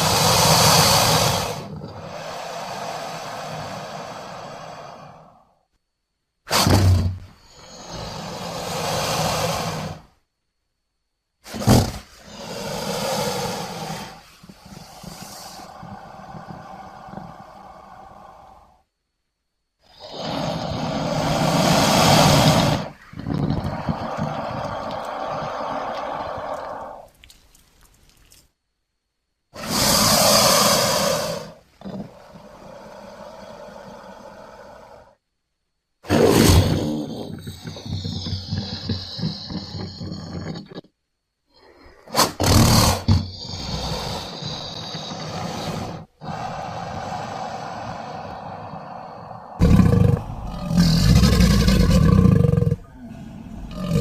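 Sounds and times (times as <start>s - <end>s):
crocodilian rough calls: 0.0s - 5.6s, 6.5s - 10.2s, 11.4s - 18.9s, 19.8s - 28.4s, 29.5s - 35.2s, 36.0s - 54.0s.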